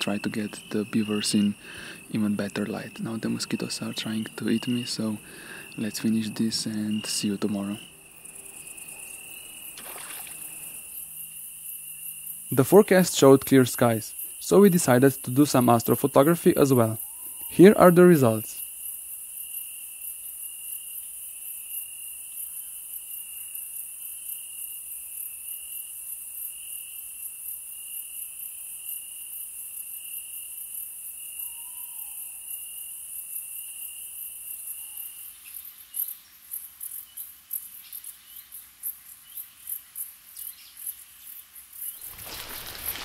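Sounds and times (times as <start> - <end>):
high cricket chirring: 0.0 - 43.0
lower pulsing cricket trill: 0.0 - 43.0.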